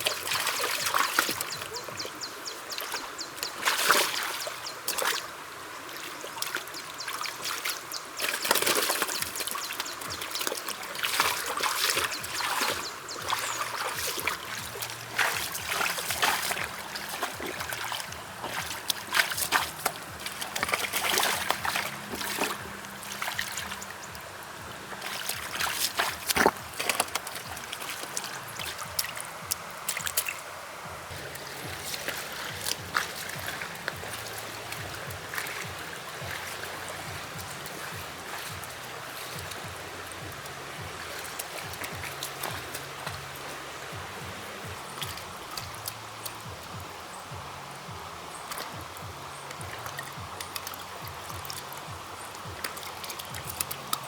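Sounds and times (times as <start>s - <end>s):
muddy water splashing: 0.0s - 54.0s
water trickling: 0.0s - 54.0s.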